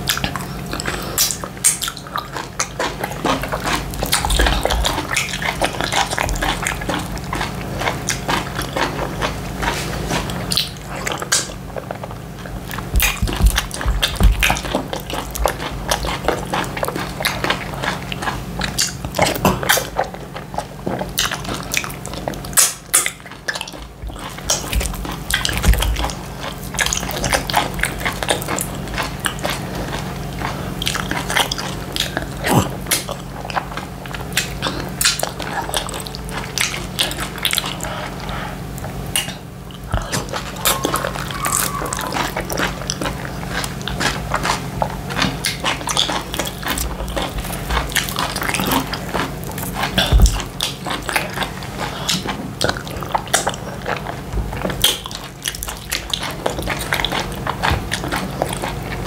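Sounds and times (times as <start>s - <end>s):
low steady hum: 0.0s - 59.0s
wet chewing and lip smacking: 0.0s - 59.0s.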